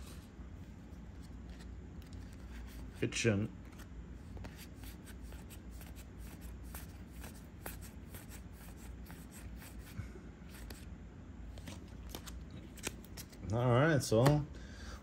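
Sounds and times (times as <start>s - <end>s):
cards clicking and rustling: 1.2s - 10.9s, 11.5s - 14.4s.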